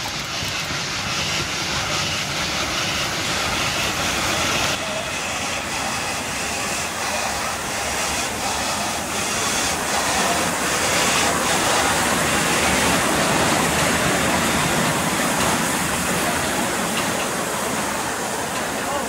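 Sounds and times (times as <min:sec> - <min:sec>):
steam hissing: 0:00.0 - 0:19.0
steam locomotive beats: 0:00.0 - 0:19.0.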